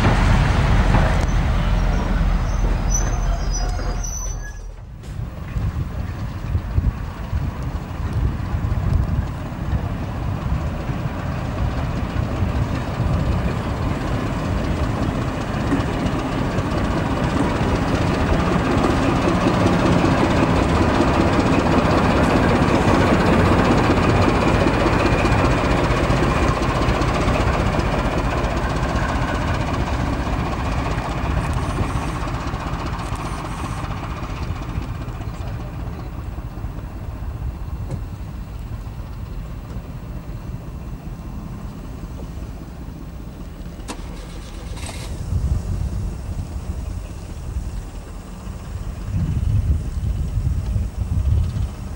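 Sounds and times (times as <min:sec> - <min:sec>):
diesel locomotive engine: 0:00.0 - 0:51.9
wheels rolling on rails: 0:00.9 - 0:51.9.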